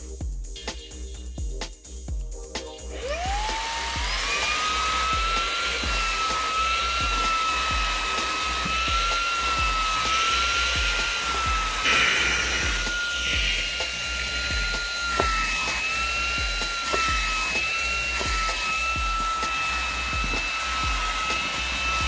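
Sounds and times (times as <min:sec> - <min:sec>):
handheld vacuum running: 0:02.8 - 0:22.0.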